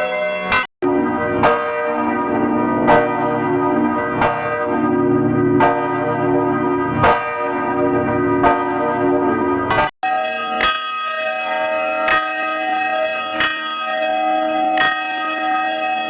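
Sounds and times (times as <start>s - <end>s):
church bell tolling: 0.0s - 16.0s.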